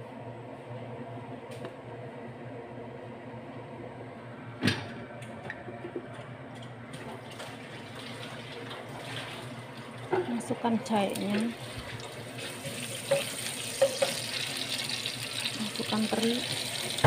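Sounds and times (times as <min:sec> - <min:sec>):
gas stove low hum: 0:00.0 - 0:07.6, 0:08.6 - 0:17.0.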